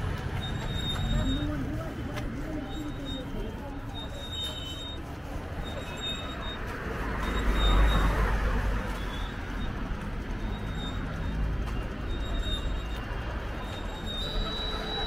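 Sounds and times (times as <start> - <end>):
crowd noise: 0.0 - 15.0
traffic: 0.0 - 15.0.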